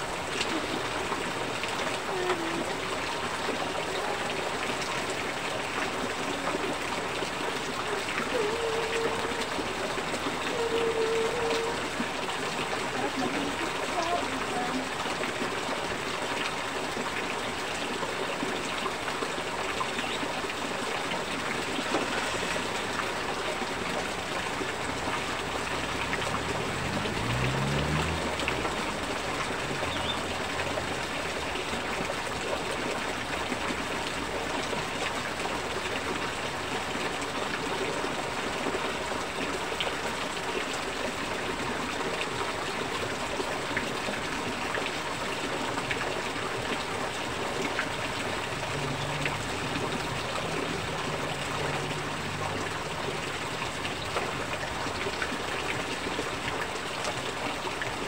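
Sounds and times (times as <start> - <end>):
rain: 0.0 - 58.0
water pouring off roof splashing: 0.0 - 58.0.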